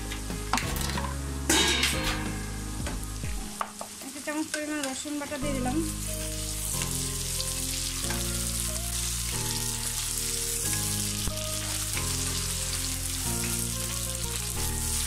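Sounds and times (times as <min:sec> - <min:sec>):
onions sizzling in hot oil: 0:00.0 - 0:15.0
slow background music: 0:00.0 - 0:15.0.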